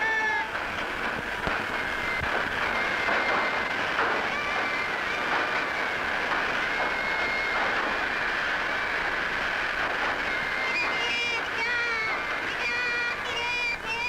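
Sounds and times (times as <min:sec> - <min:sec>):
shrill high-pitched calls: 0:00.0 - 0:14.0
train rattling rumble: 0:00.0 - 0:14.0.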